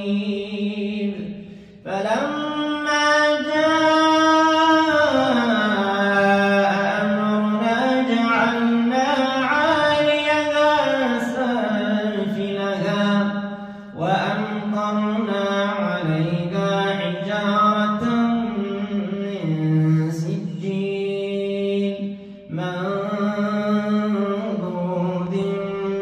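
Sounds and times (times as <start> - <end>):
man chanting recitation: 0.0 - 26.0.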